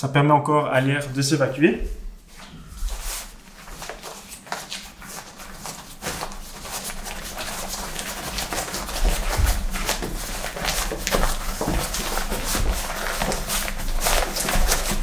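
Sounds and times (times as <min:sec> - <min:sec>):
fabric rustling and crinkling: 0:01.0 - 0:15.0.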